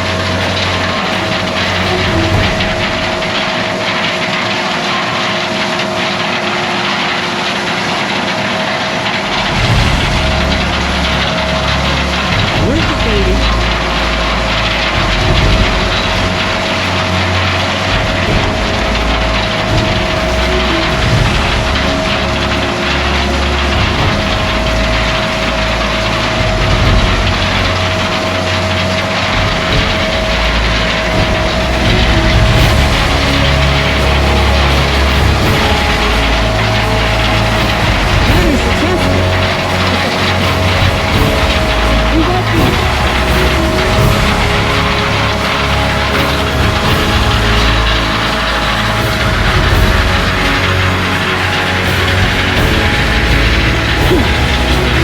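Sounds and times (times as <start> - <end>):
deep low rumble: 0.0 - 3.9, 9.2 - 55.0
heavy vehicle engines running: 0.0 - 55.0.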